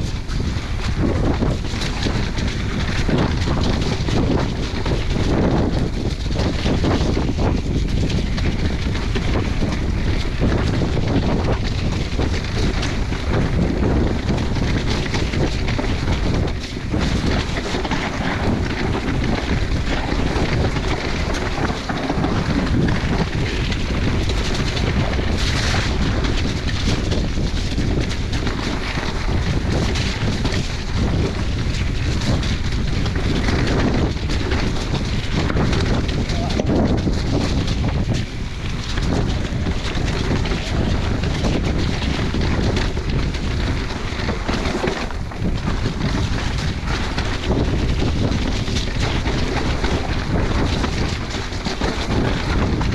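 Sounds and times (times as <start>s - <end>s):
mountain bike rumbling and rattling: 0.0s - 52.9s
wind buffeting microphone: 0.0s - 52.9s.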